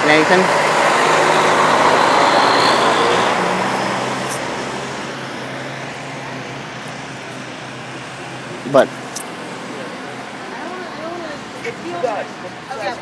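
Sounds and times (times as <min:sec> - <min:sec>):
truck driving past: 0:00.0 - 0:13.0.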